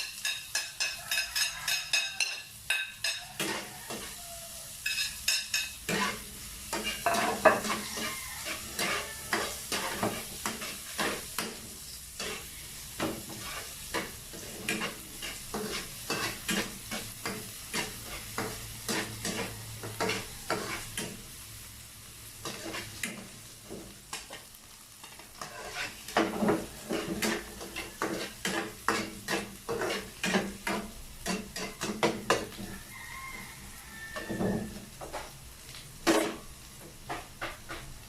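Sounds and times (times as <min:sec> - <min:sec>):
spatula scraping frying pan: 0:00.0 - 0:21.4, 0:22.3 - 0:35.4, 0:36.0 - 0:38.0
food sizzling in frying pan: 0:00.0 - 0:38.0.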